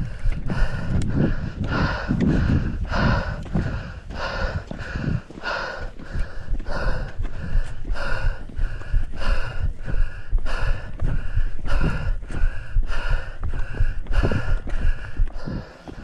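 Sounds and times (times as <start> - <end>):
person breathing hard: 0.0 - 16.0
wind rumbling on microphone: 0.0 - 16.0.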